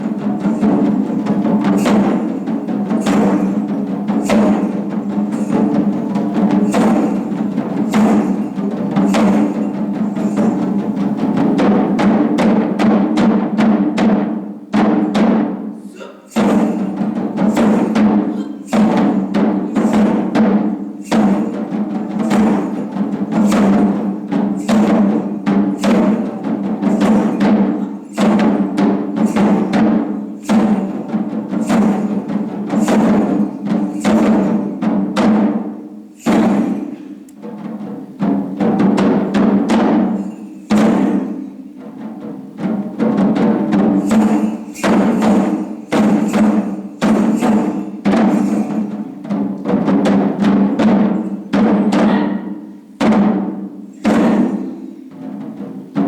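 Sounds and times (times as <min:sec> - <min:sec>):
heavy drum strikes: 0:00.0 - 0:56.0.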